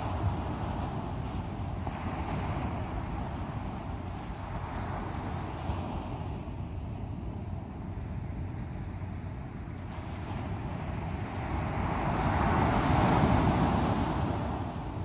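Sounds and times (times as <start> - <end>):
ocean waves breaking: 0.0 - 7.4, 9.8 - 15.0
wind on microphone: 0.0 - 15.0.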